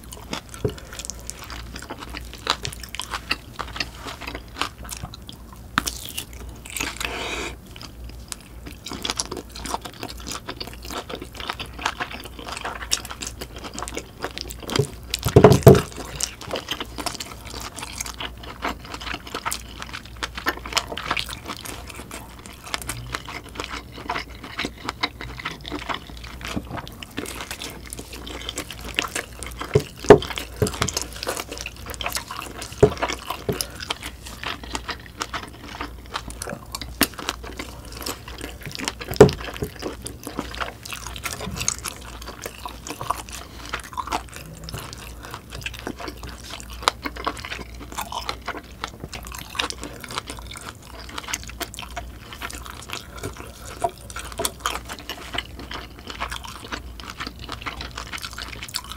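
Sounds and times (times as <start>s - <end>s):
wet chewing and smacking: 0.0s - 58.9s.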